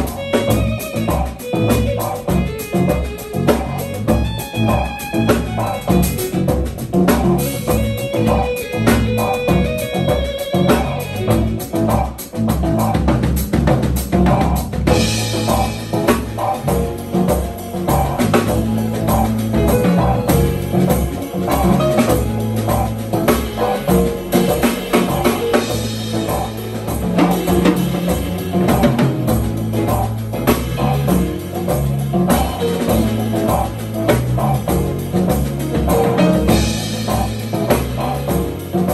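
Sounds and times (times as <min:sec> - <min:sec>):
drum kit: 0:00.0 - 0:38.9
electric bass line: 0:00.0 - 0:38.9
keyboards: 0:00.0 - 0:38.9.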